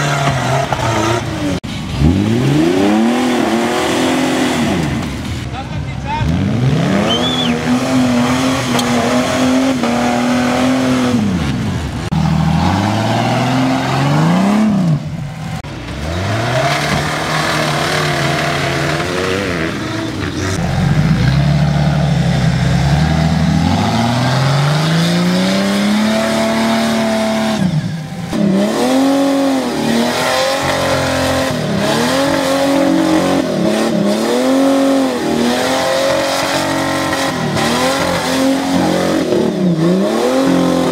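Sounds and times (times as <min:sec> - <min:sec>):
off-road vehicle engine revving: 0:00.0 - 0:40.9.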